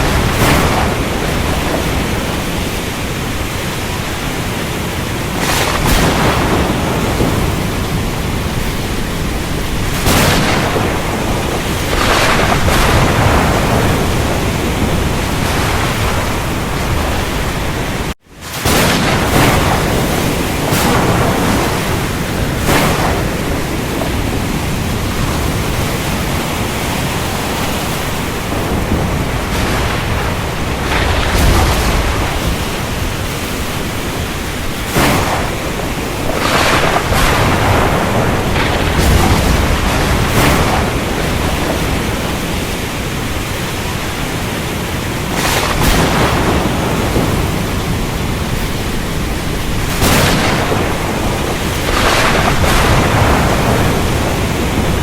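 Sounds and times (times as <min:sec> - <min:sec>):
heavy rain: 0:00.0 - 0:55.0
thunder rumbles: 0:00.0 - 0:55.0.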